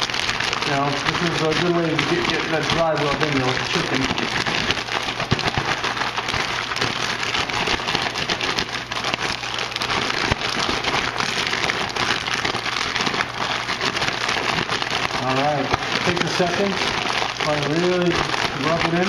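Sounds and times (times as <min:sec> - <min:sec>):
plastic bag crackling and rustling: 0:00.0 - 0:19.0.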